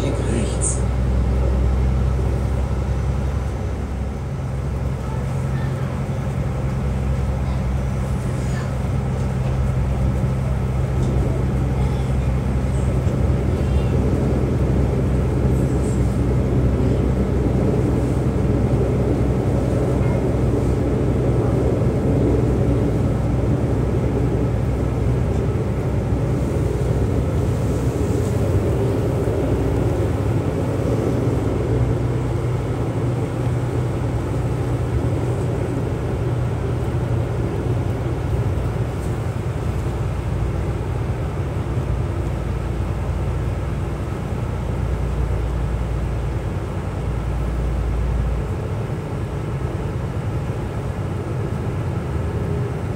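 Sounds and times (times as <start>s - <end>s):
low diesel engine drone: 0.0s - 52.9s
wheels rumbling on rails: 0.0s - 52.9s.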